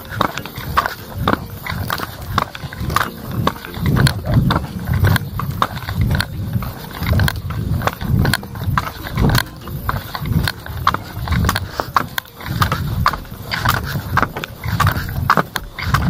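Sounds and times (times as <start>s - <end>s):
footsteps on paved lane: 0.0s - 16.0s
heavy breathing: 0.0s - 16.0s
scuffs and clicks: 0.0s - 16.0s.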